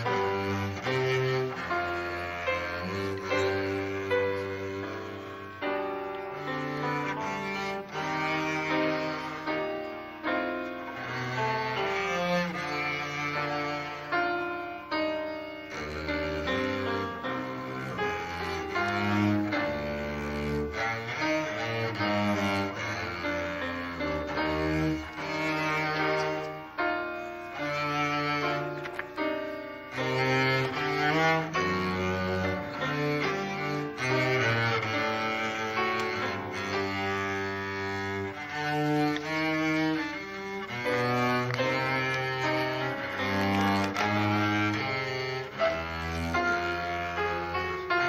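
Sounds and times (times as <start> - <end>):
cello playing classical piece: 0.0 - 48.0.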